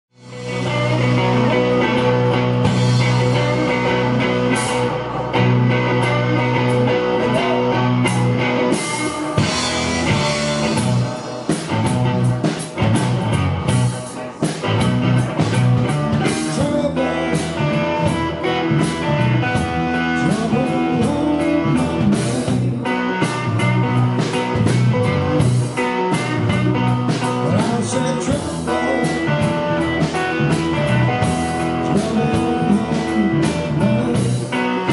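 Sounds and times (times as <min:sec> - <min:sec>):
electric guitar: 0:00.1 - 0:34.9
live rock band playing: 0:00.1 - 0:34.9.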